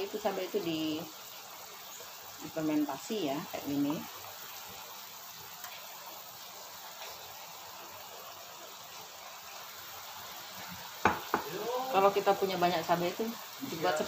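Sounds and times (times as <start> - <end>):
soup bubbling: 0.6 - 13.9.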